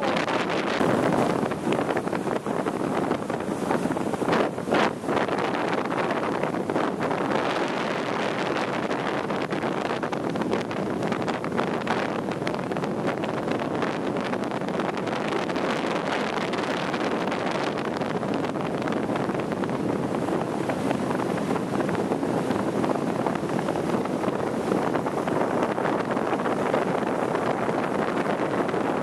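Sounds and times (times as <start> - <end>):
boat rushing over water: 0.0 - 29.0
wind buffeting microphone: 0.0 - 29.0.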